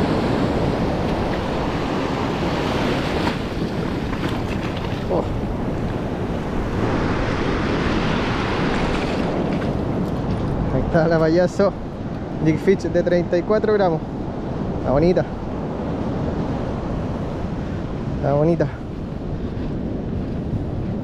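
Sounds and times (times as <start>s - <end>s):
surf breaking on a beach: 0.0s - 21.0s
wind buffeting microphone: 0.0s - 21.0s.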